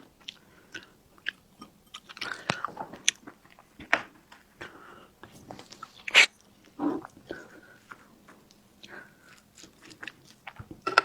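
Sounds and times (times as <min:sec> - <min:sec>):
chewing and biting food: 0:00.0 - 0:04.5, 0:05.6 - 0:11.0.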